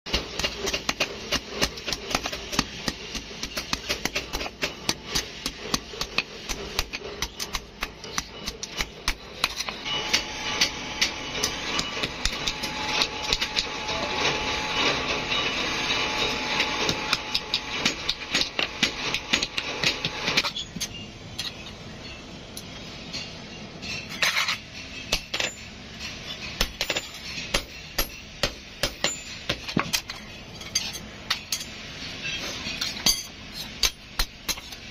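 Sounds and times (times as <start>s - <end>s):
hammer striking metal on anvil: 0.1s - 21.0s, 24.9s - 31.8s, 32.8s - 34.9s.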